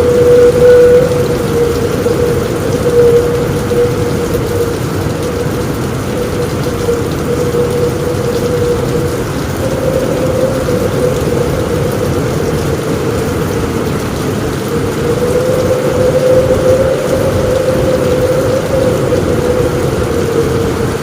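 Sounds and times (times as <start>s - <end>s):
heavy rain on a roof: 0.0s - 21.0s
steady low tone: 0.0s - 21.0s.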